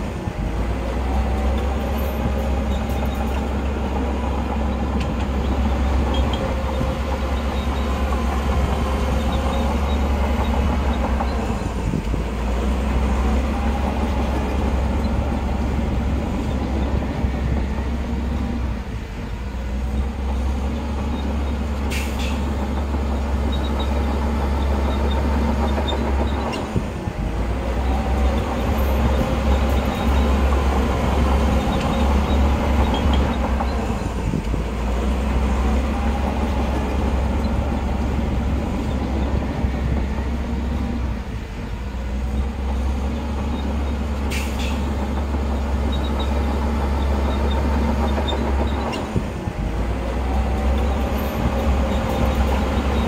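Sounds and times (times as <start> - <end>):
heavy diesel machinery rumbling: 0.0 - 53.0.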